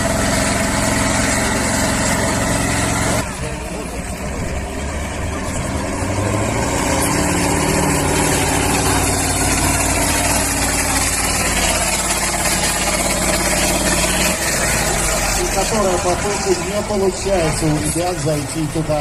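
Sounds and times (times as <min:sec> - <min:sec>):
truck diesel engine under load: 0:00.0 - 0:19.0.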